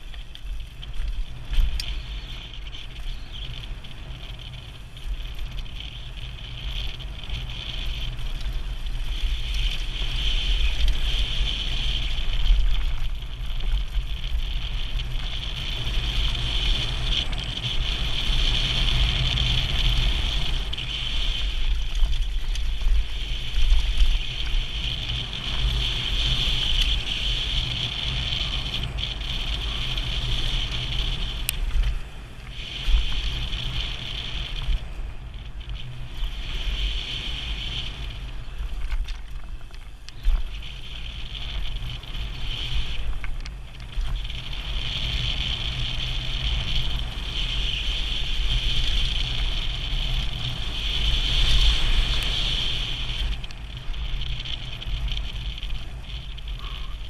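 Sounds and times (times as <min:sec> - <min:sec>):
tyres rolling over gravel: 0:00.0 - 0:57.0
wind rumble on microphone: 0:00.0 - 0:57.0.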